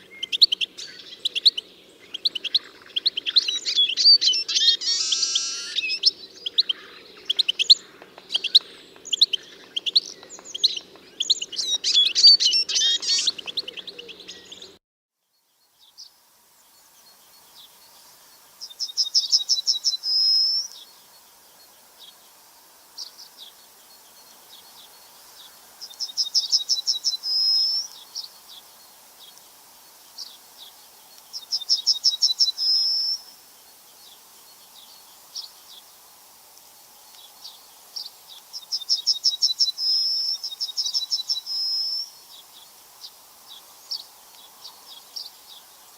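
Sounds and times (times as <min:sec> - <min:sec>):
bird song trill: 0:00.0 - 0:22.2, 0:23.0 - 0:29.4, 0:30.1 - 0:35.9, 0:37.1 - 0:45.9
songbirds chirping: 0:00.0 - 0:45.9.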